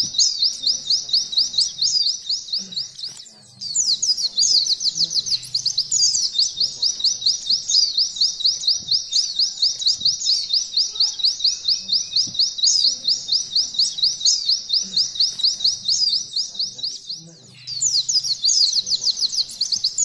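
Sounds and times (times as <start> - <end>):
bird singing fast trill: 0.0 - 20.0.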